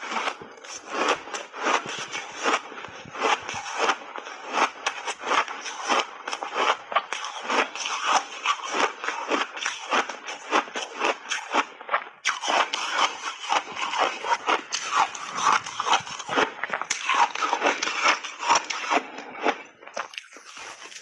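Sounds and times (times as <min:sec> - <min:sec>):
ice being chewed crunching: 0:00.0 - 0:21.0.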